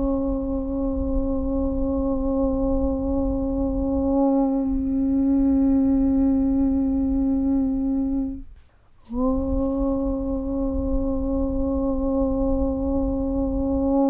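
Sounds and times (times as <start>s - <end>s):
low rumble: 0.0s - 14.0s
voice chanting om: 0.0s - 14.0s.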